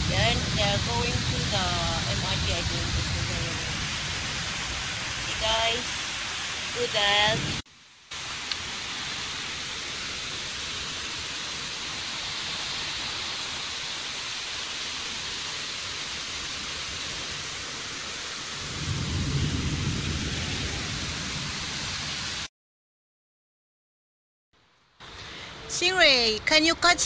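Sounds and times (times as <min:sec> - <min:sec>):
heavy rain falling: 0:00.0 - 0:22.5.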